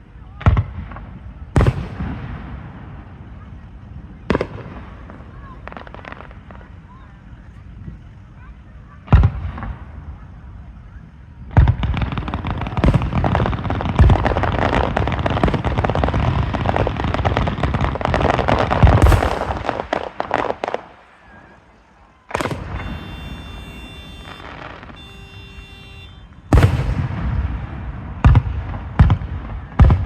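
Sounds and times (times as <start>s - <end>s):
firework bangs: 0.3s - 7.0s, 9.1s - 10.7s, 11.5s - 30.0s
rapid-fire firework popping: 0.4s - 8.2s, 11.5s - 30.0s.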